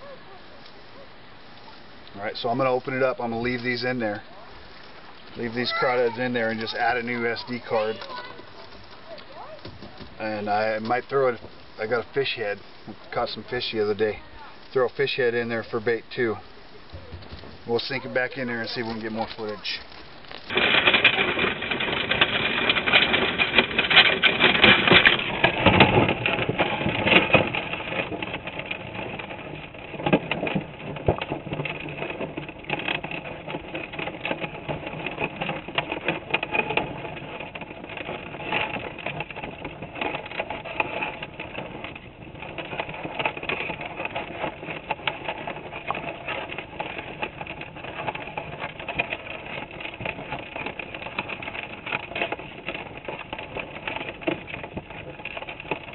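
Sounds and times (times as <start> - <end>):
dense underwater crackle of clicks: 1.5 - 55.9.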